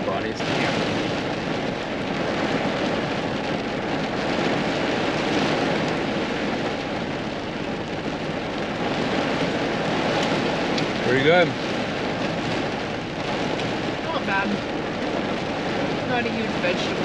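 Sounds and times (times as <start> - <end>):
heavy rain on a vehicle: 0.0 - 17.0.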